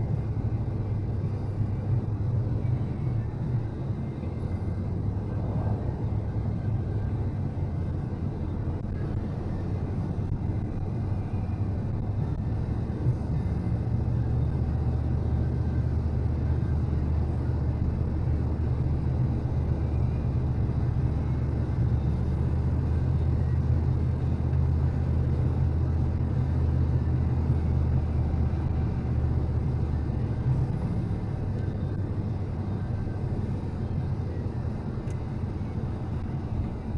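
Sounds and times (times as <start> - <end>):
road noise: 0.0 - 36.9
vehicle engine drone: 0.0 - 36.9.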